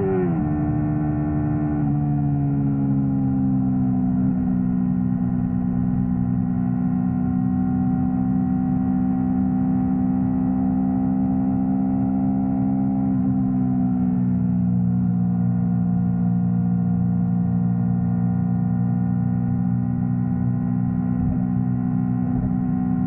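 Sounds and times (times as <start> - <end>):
motorcycle engine droning: 0.0 - 23.0.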